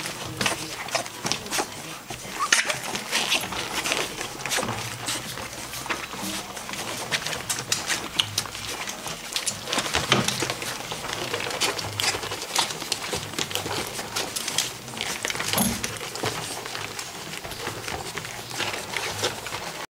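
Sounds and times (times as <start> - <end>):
puppies suckling: 0.0 - 19.9.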